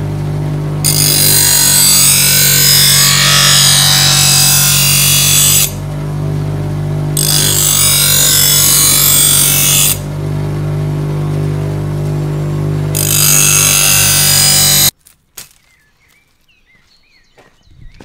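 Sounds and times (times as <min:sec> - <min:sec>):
bench grinder motor humming: 0:00.0 - 0:14.9
steel grinding on wheel: 0:00.0 - 0:14.9.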